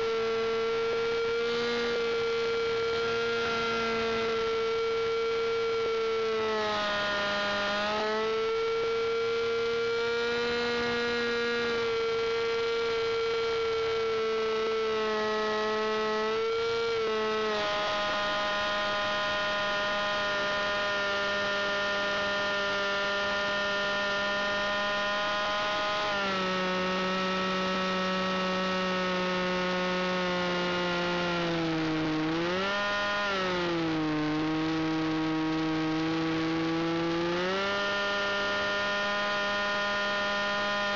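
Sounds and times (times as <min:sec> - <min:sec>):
model aeroplane engine droning: 0:00.0 - 0:40.9.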